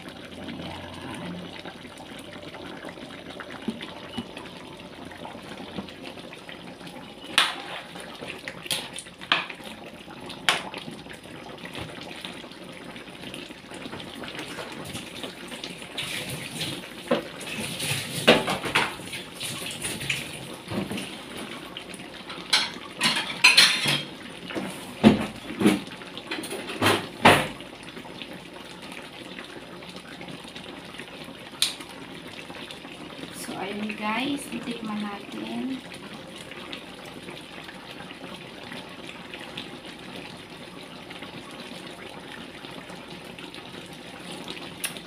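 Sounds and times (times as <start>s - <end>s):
stew bubbling in a wok: 0.0s - 45.0s.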